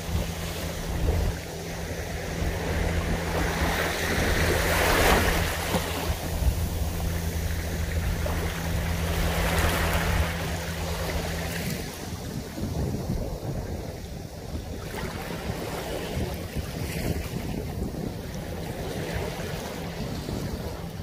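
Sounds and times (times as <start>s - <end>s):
small waves washing on beach: 0.0s - 21.0s
steady low hum: 0.0s - 21.0s.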